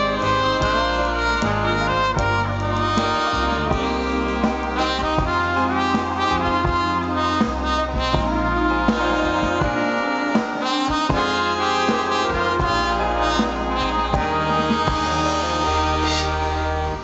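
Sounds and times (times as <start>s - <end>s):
circus orchestra with brass: 0.0s - 17.0s.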